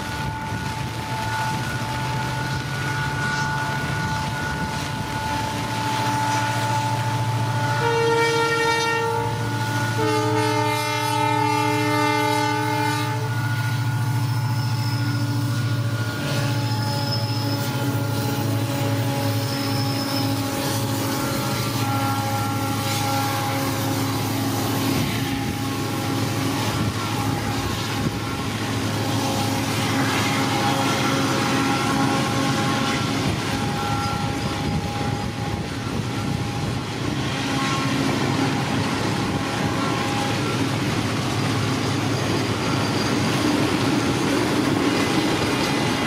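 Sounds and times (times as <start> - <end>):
locomotive engine running: 0.0 - 12.2, 13.2 - 46.0
locomotive horn blasts: 0.0 - 46.0.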